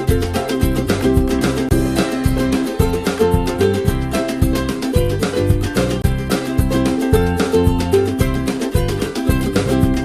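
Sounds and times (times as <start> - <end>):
upbeat music with plucked strings: 0.0 - 10.0.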